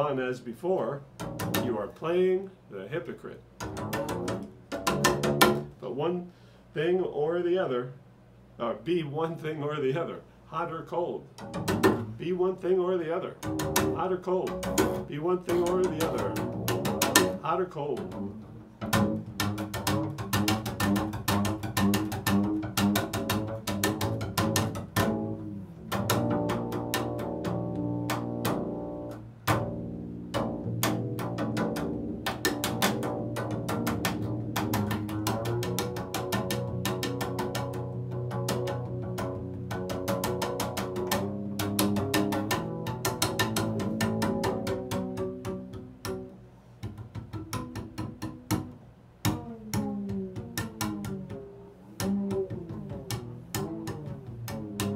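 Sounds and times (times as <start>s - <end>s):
bowed double bass: 0.0s - 7.9s, 8.6s - 54.9s.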